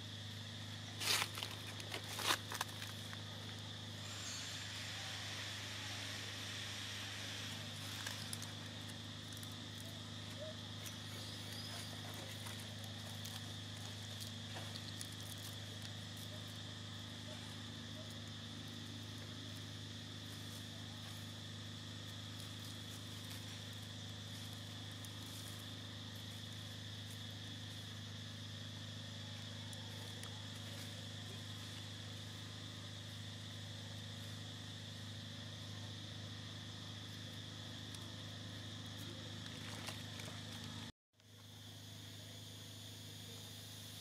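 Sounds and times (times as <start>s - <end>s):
high insect drone: 0.0s - 44.0s
low even hum: 0.0s - 44.0s.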